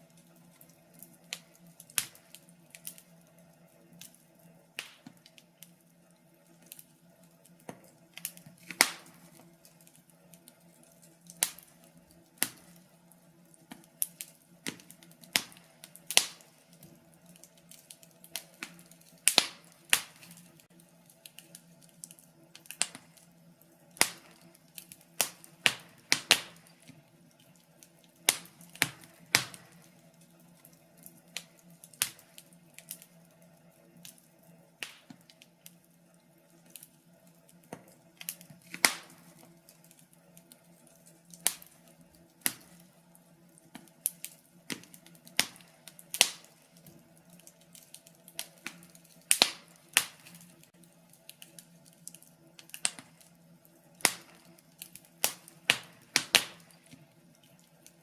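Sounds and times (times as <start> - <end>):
faint steady hum: 0.0 - 58.0
fireplace fire crackling: 0.0 - 58.0.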